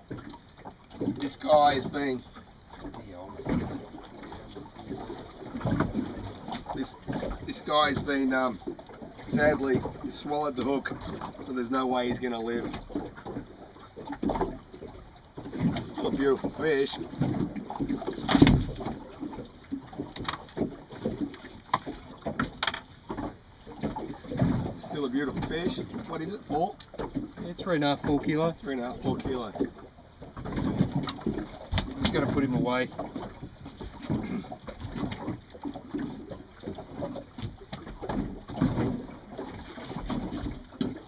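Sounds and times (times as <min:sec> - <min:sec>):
water washing: 0:00.0 - 0:41.0.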